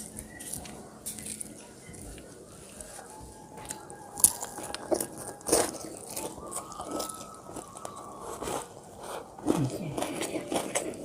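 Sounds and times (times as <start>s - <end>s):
person chewing and crunching food: 0.0s - 11.0s.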